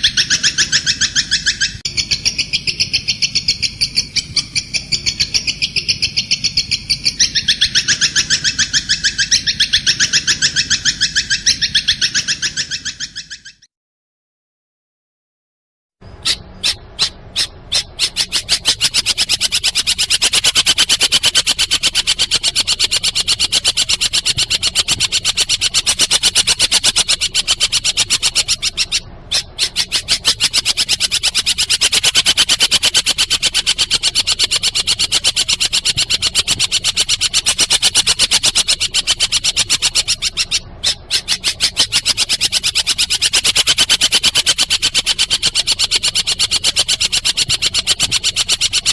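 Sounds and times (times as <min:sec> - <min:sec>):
rapid clicking bird trill: 0:00.0 - 0:13.7, 0:16.1 - 0:48.9.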